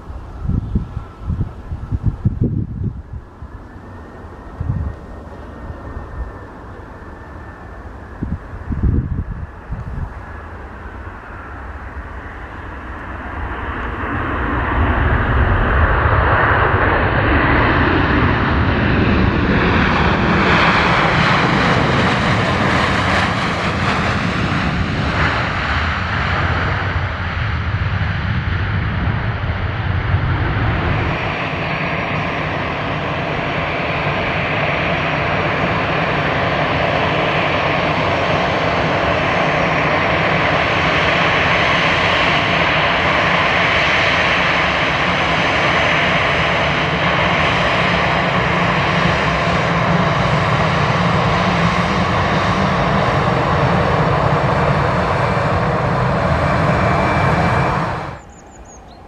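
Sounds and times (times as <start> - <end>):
jet engines rumbling: 0.0 - 59.0
jet engines whining: 0.0 - 59.0.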